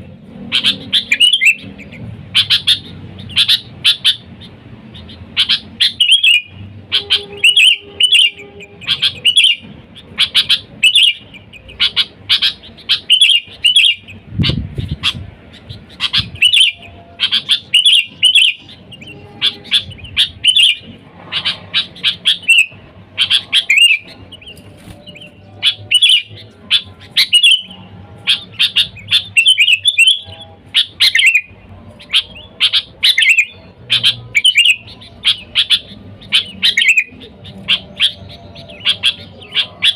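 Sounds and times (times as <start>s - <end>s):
bulbul chirping calls: 0.5s - 39.9s.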